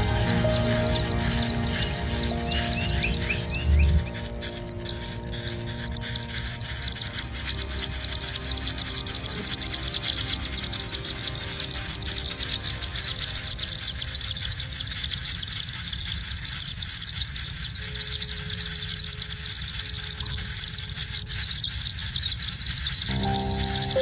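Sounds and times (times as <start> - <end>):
nestlings squealing: 0.0 - 24.0.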